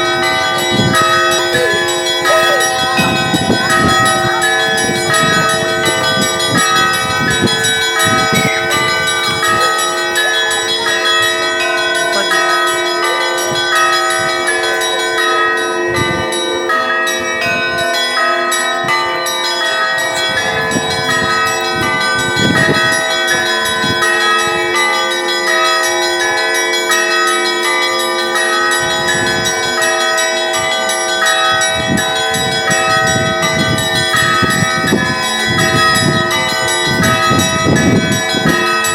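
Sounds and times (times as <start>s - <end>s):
church bells pealing: 0.0s - 38.9s
heavy low bell strokes: 0.0s - 38.9s.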